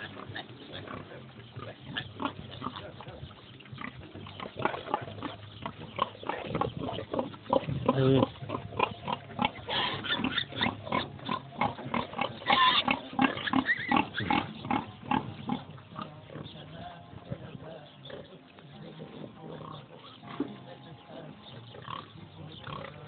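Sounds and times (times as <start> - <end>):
pigs grunting and feeding: 0.0 - 23.0
pigs' pitched calls: 0.0 - 23.0.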